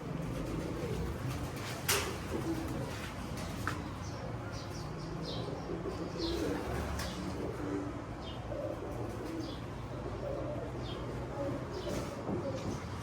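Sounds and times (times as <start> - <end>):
pigeons cooing: 0.0 - 3.7, 4.6 - 13.0.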